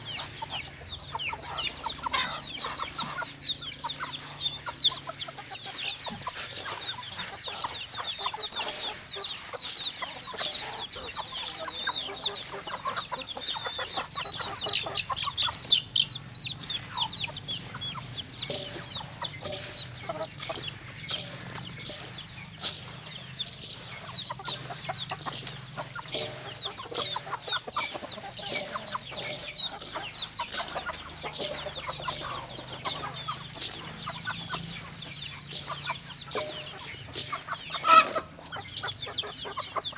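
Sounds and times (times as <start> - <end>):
chickens clucking and calling: 0.0 - 39.9.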